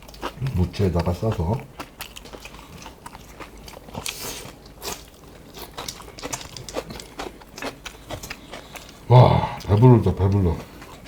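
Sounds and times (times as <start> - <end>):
small crunches: 0.0 - 9.1
chewing and biting food: 0.0 - 11.0.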